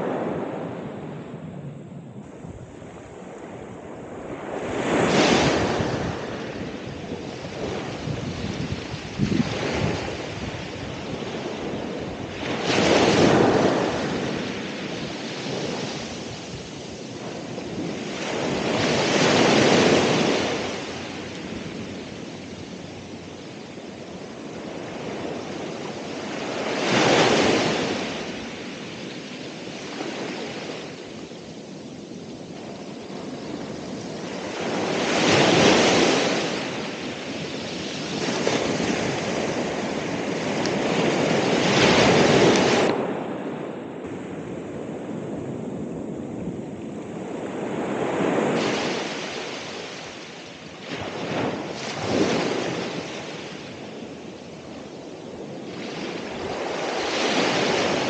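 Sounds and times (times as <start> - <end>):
ocean waves breaking: 0.0 - 58.0
wash of surf: 2.4 - 31.5, 32.5 - 58.0.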